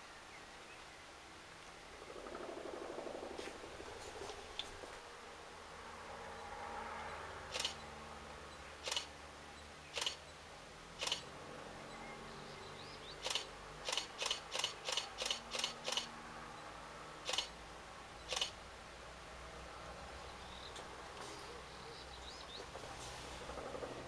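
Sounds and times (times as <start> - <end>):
distant helicopter hum: 1.8 - 24.0.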